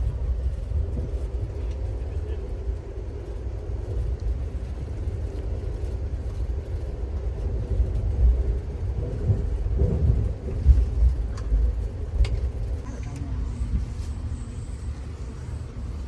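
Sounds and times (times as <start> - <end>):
train car rumbling on track: 0.0 - 16.0.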